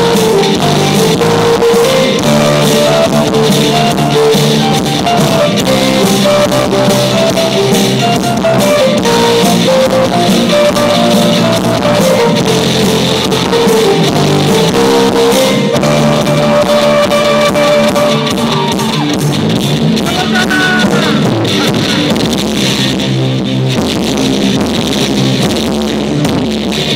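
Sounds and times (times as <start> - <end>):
live pop band playing: 0.0 - 26.9.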